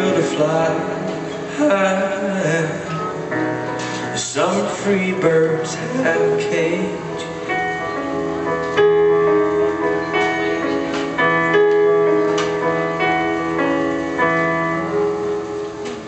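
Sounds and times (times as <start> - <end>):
slow piano chords and melody: 0.0 - 16.0.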